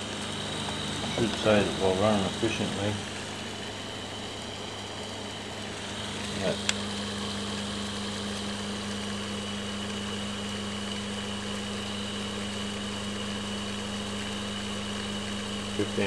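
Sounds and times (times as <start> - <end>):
motor humming with faint whine: 0.0 - 16.0.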